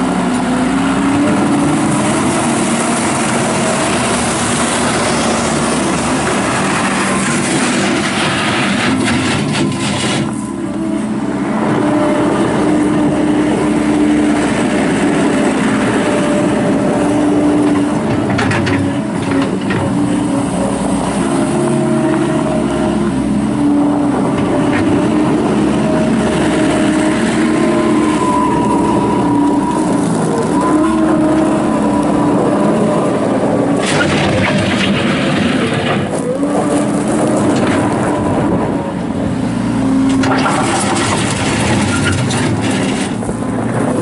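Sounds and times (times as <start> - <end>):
diesel loader engine under load: 0.0 - 44.0.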